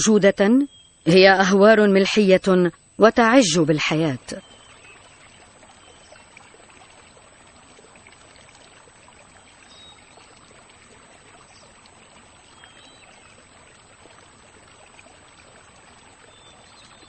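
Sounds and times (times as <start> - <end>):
trickle of flowing water: 0.0 - 17.0.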